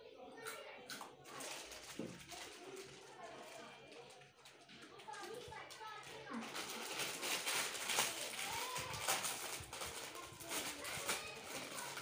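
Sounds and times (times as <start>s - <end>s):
plastic packets crinkling: 1.2s - 12.0s.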